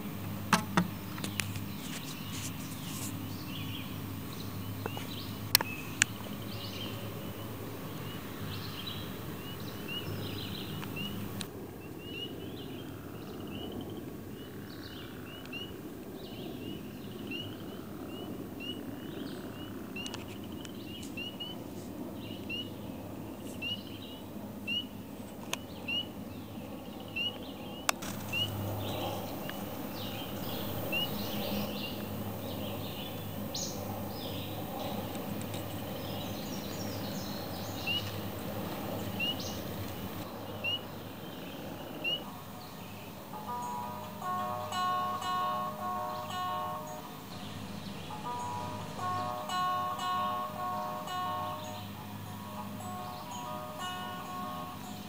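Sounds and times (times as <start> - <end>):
background hiss: 0.0 - 55.0
low steady hum: 0.0 - 55.0.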